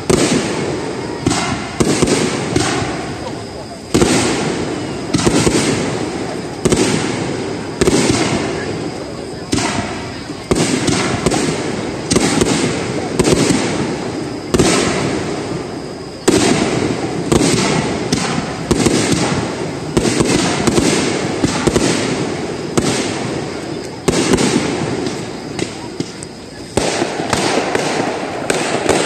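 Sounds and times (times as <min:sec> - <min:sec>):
firework shells bursting: 0:00.0 - 0:08.8, 0:09.5 - 0:29.0
firework crackles: 0:00.0 - 0:29.0.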